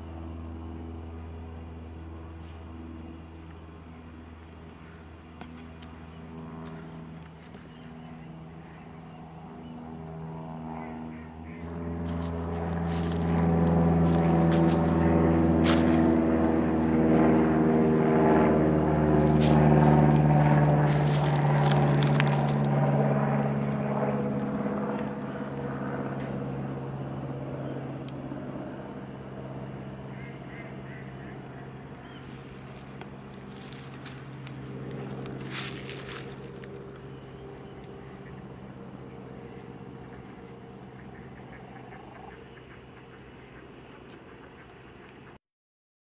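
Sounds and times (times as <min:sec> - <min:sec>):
passing vehicle engine droning: 0:00.0 - 0:45.4.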